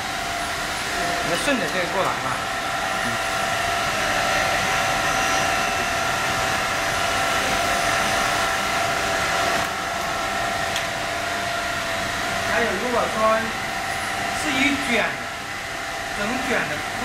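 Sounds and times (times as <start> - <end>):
factory machinery rushing drone: 0.0 - 17.0
steady machine whine: 0.0 - 17.0.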